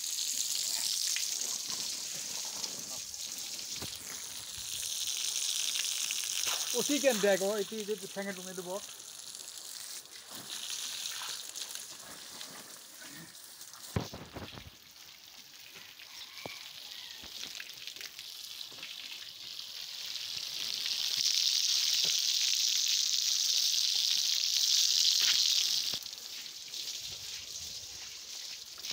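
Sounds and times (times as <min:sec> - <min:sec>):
water hissing from garden hose: 0:00.0 - 0:28.9
water splashing on ground: 0:00.0 - 0:28.9.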